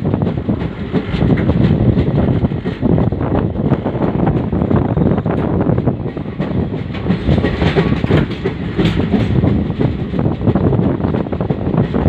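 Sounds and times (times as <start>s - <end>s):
train rumble: 0.0s - 12.0s
wheels clattering over rails: 0.0s - 12.0s.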